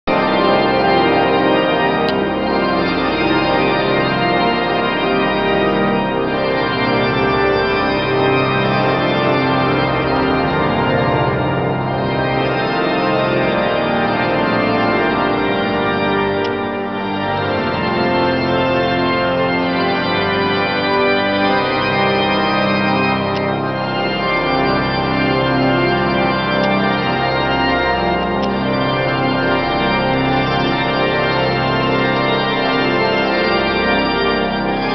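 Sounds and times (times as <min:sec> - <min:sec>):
pipe organ playing chords: 0:00.1 - 0:34.9.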